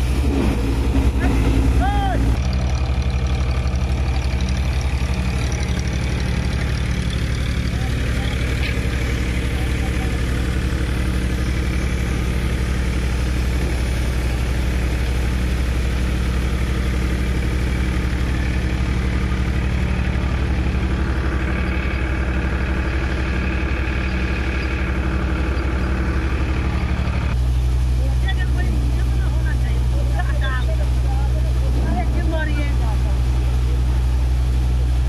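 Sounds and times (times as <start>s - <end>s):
diesel tractor engine running: 0.0s - 35.0s.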